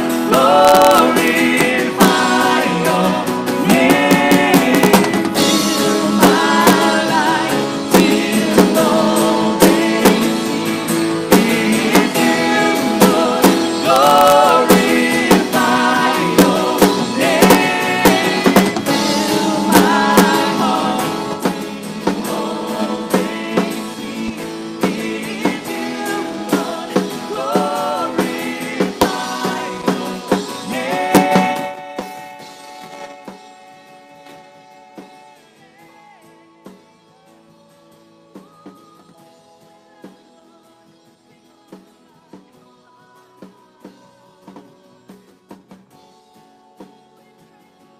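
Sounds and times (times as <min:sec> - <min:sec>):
voices singing melody: 0:00.0 - 0:45.8
acoustic guitar: 0:00.0 - 0:47.9
keyboard with steady beat: 0:00.0 - 0:47.9.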